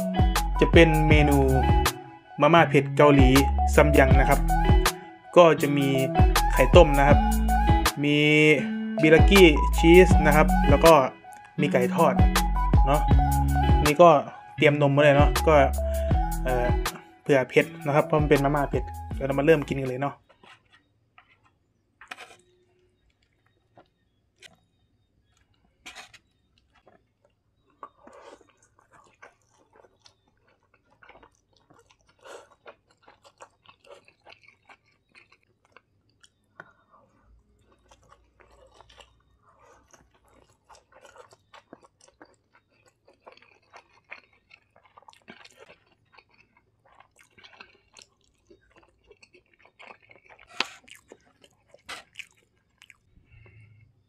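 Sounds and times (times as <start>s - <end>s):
person chewing noodles: 3.0s - 8.0s, 15.7s - 54.0s.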